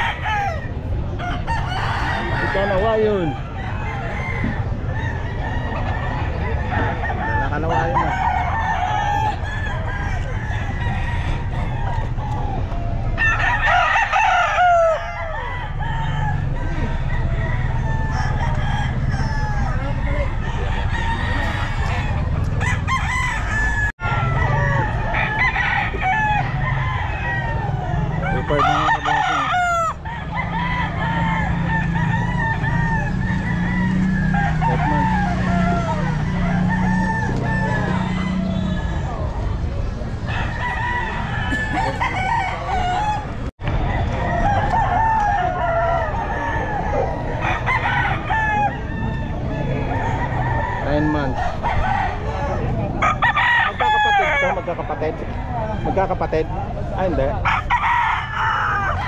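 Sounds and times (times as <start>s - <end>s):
roosters crowing and clucking: 0.0s - 59.0s.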